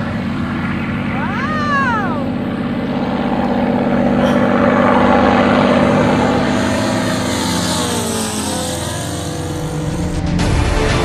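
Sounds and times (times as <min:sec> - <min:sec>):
model aircraft engine running: 0:00.0 - 0:11.0.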